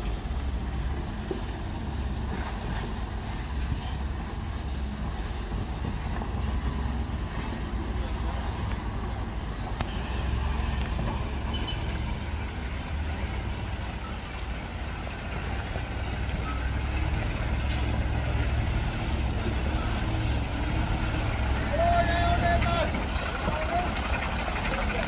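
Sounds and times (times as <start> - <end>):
heavy vehicle engine rumbling: 0.0 - 25.0.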